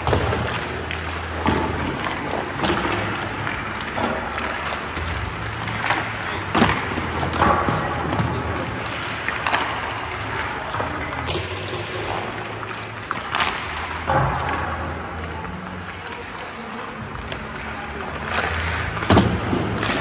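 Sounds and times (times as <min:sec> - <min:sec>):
skate blades scraping on ice: 0:00.0 - 0:07.2, 0:08.7 - 0:20.0.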